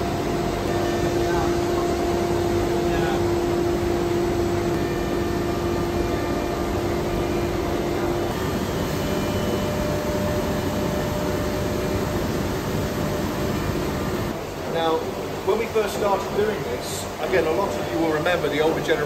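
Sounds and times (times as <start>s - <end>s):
machine whine: 0.0s - 19.0s
press machine hum and hiss: 0.0s - 19.0s.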